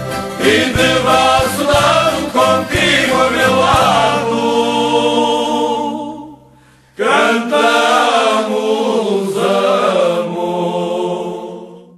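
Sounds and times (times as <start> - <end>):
choir singing: 0.1 - 11.9.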